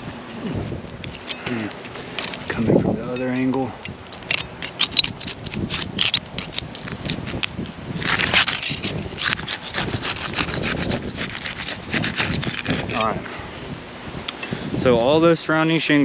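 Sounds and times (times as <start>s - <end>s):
shingles crackling and scraping: 0.0s - 13.4s.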